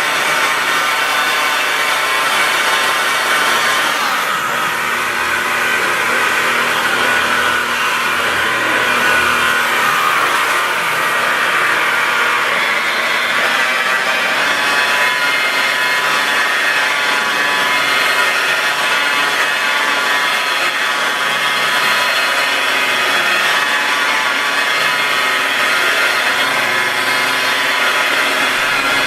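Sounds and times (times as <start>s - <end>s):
electric buffer whining: 0.0s - 29.0s.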